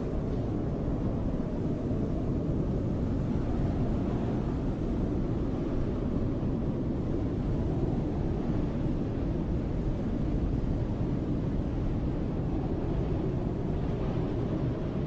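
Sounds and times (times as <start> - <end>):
snowstorm wind blowing: 0.0 - 15.0.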